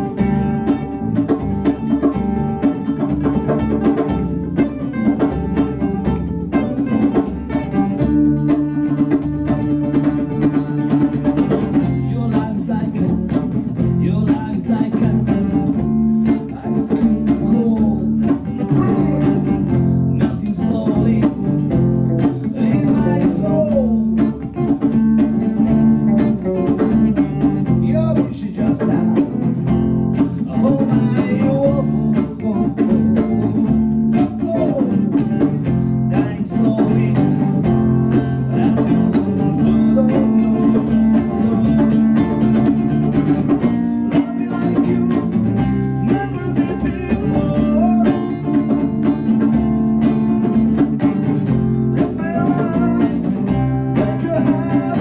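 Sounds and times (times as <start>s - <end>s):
drum kit beat: 0.0s - 55.0s
guitar chords: 0.0s - 55.0s.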